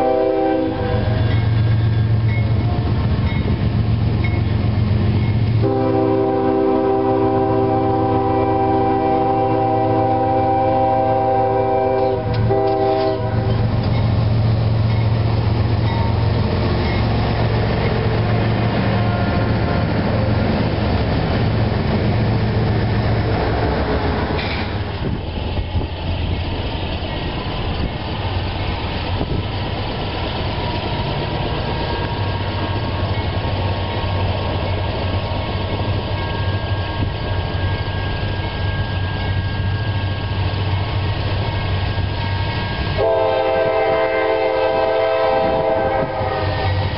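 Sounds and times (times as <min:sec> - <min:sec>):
diesel locomotives rumbling: 0:00.0 - 0:46.9
freight train rolling rumble: 0:00.0 - 0:46.9.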